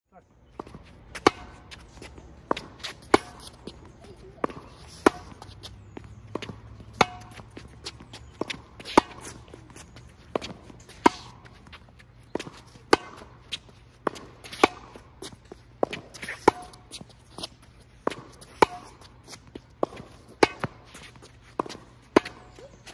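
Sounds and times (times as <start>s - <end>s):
footsteps on hard court: 0.5s - 22.9s
tennis ball struck by rackets: 0.6s - 22.9s.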